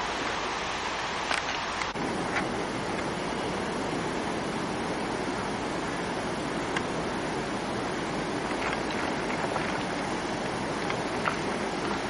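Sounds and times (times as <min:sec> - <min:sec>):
rushing mountain river: 0:00.0 - 0:12.0.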